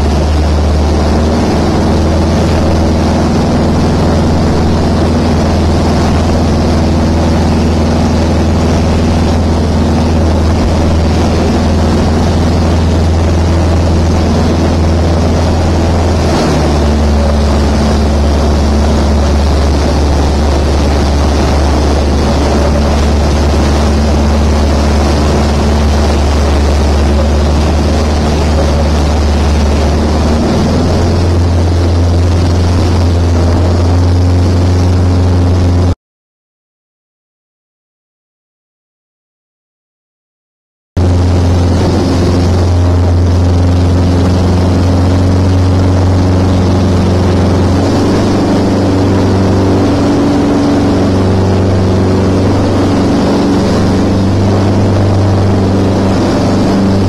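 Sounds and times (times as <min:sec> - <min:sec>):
light aircraft engine droning: 0:00.0 - 0:36.0, 0:41.0 - 0:57.0.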